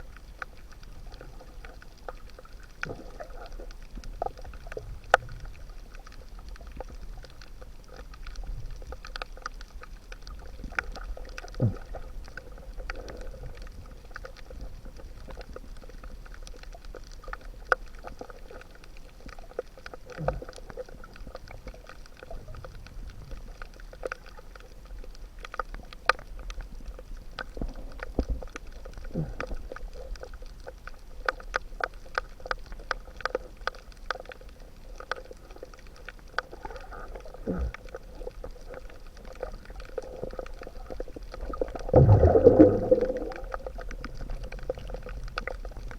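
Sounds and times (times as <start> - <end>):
low underwater rumble: 0.0 - 45.9
sharp underwater clicks: 0.0 - 45.9.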